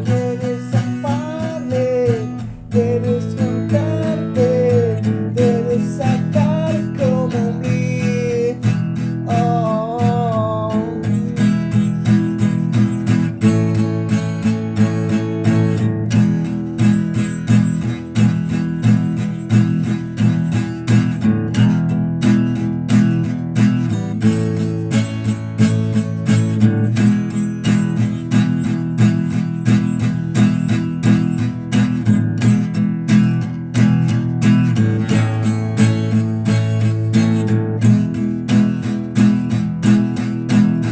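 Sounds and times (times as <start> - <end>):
strummed guitar: 0.0 - 40.9.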